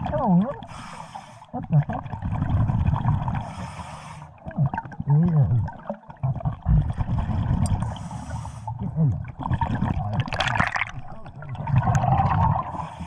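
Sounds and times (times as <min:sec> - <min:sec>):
exhaled bubbles gurgling: 0:00.0 - 0:13.0.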